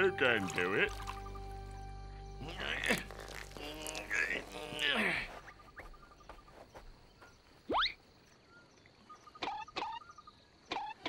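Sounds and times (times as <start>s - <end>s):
crickets chirping: 0.0s - 10.9s.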